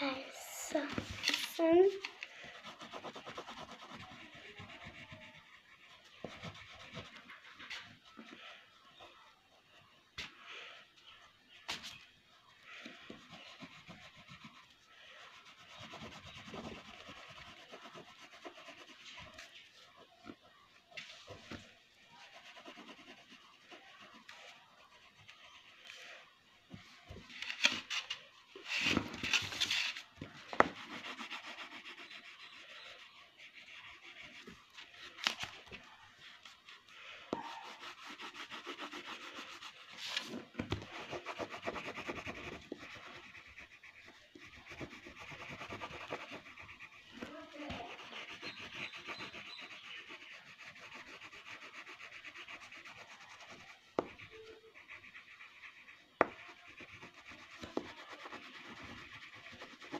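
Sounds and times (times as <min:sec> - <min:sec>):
colouring pencil scribbling on paper: 0:00.0 - 0:10.0, 0:12.4 - 0:26.2, 0:27.1 - 0:59.9.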